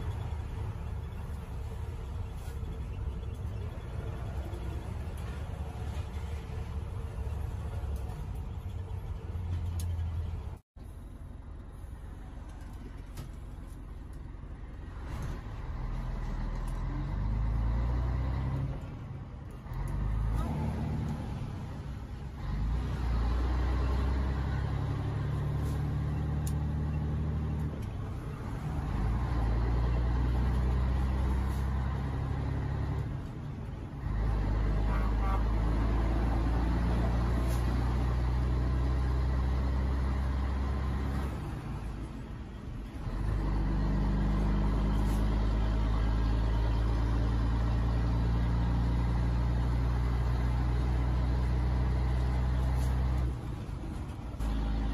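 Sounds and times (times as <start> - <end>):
truck diesel engine under load: 0.0 - 54.9.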